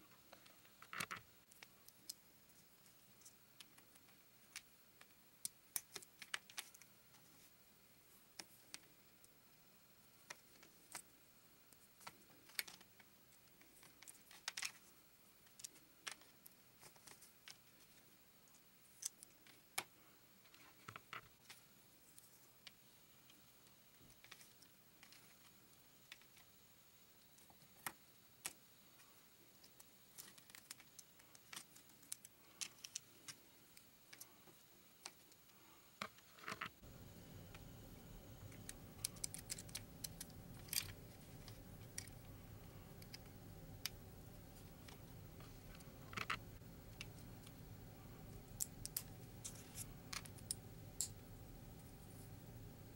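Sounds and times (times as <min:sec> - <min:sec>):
low steady hum: 0:00.0 - 0:52.9.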